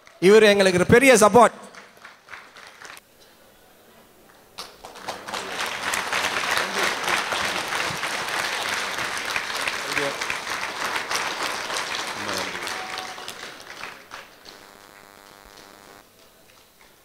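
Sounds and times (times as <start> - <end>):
audience applause: 1.7 - 3.0, 4.6 - 17.0.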